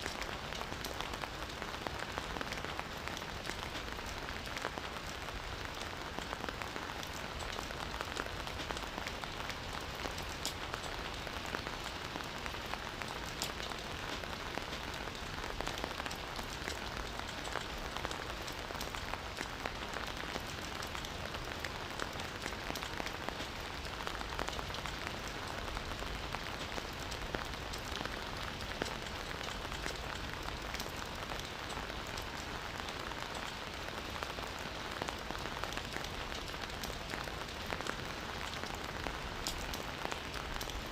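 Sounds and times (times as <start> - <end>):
steady rain in forest: 0.0 - 40.9.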